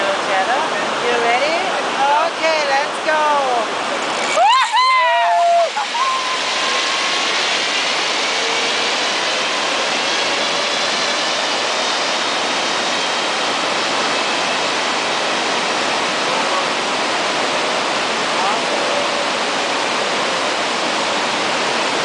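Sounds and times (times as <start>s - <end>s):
creek white water rushing: 0.0s - 22.0s.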